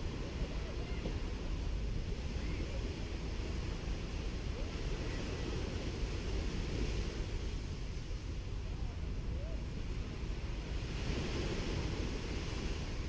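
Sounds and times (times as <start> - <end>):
sea waves washing on beach: 0.0 - 13.0
wind rumble on microphone: 0.0 - 13.0.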